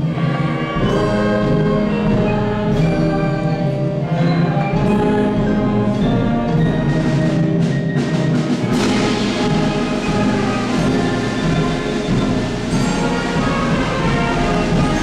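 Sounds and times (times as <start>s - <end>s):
orchestral music: 0.0s - 15.0s
percussion strikes: 0.0s - 15.0s.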